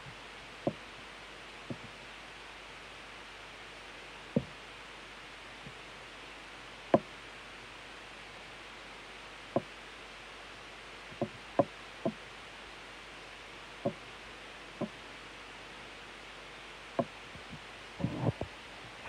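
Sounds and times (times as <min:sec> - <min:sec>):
steady faint hiss: 0:00.0 - 0:19.0.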